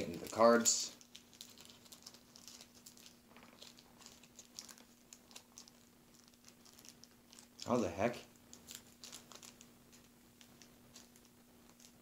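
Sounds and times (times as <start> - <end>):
faint steady hum: 0.0 - 12.0
plastic wrapping crinkling: 0.0 - 12.0.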